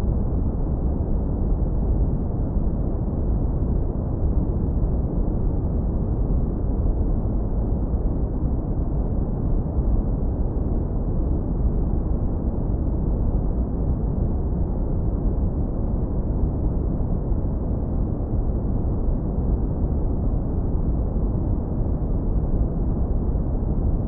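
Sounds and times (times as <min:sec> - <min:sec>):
low rumbling brown noise: 0:00.0 - 0:24.0.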